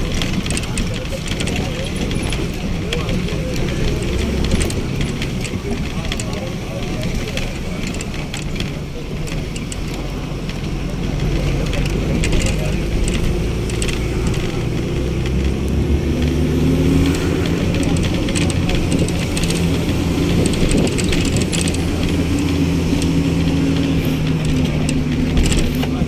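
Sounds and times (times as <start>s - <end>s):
faint rattles: 0.0s - 26.0s
vehicle engine drone: 0.0s - 26.0s.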